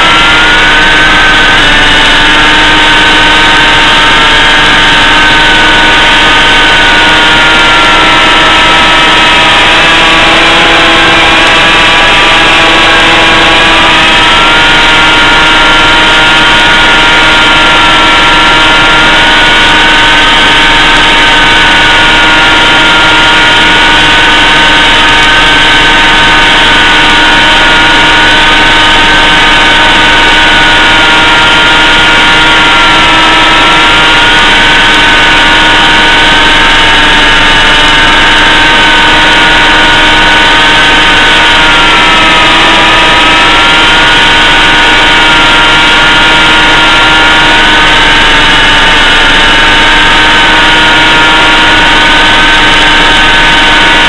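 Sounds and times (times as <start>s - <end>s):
model plane motor whine: 0.0s - 54.0s.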